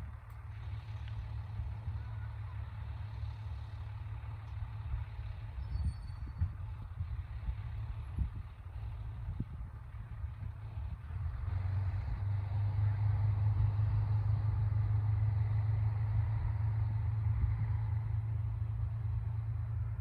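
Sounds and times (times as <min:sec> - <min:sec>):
diesel train engine drone: 0:00.0 - 0:20.0.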